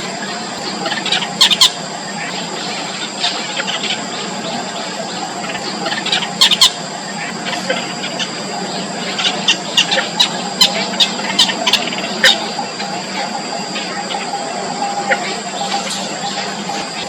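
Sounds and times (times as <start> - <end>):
nestling birds cheeping: 0.0 - 17.0.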